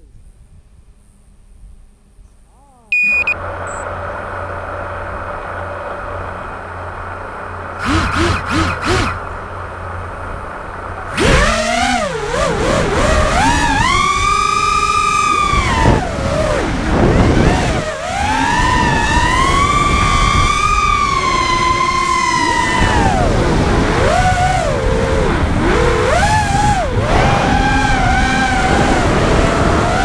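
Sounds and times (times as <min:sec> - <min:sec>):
drone motors whining: 0:02.7 - 0:30.0.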